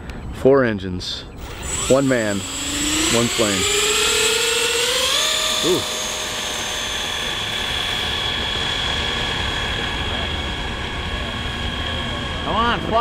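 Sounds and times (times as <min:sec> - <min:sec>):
electric ducted fans whining: 0:00.0 - 0:13.0.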